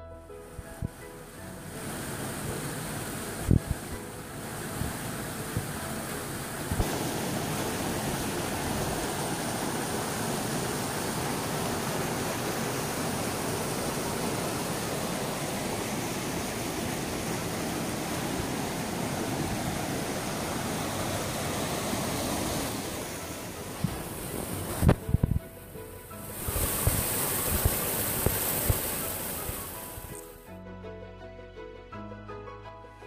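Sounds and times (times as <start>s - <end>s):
flowing water rushing: 0.8s - 30.4s.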